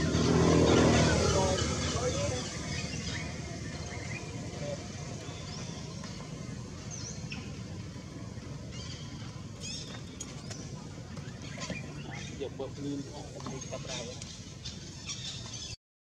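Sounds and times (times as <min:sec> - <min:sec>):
low outdoor rumble: 0:00.0 - 0:15.8.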